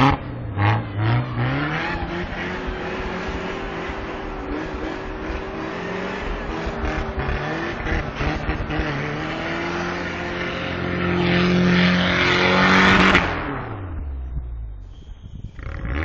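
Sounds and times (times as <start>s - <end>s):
truck engine revving hard: 0.0s - 14.1s
tires spinning in snow: 0.0s - 16.0s.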